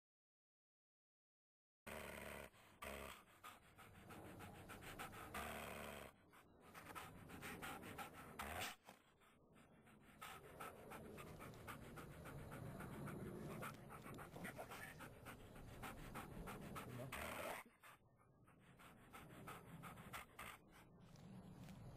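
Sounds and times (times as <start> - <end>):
dog panting quickly: 2.4 - 21.9.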